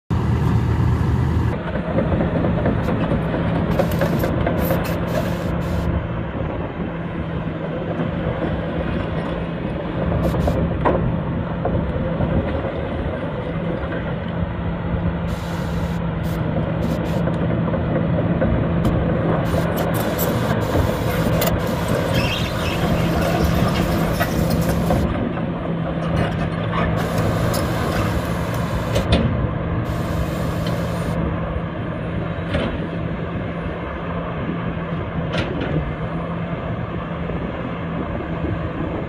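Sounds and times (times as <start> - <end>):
diesel engine running: 0.1 - 39.0.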